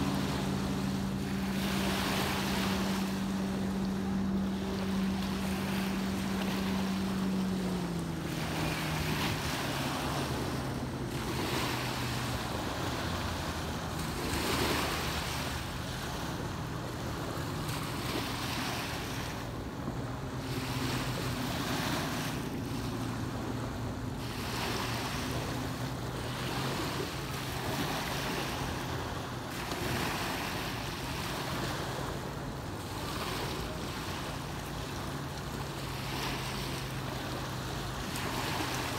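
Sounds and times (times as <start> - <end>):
engine humming: 0.0 - 38.9
small waves lapping on shore: 0.0 - 38.9.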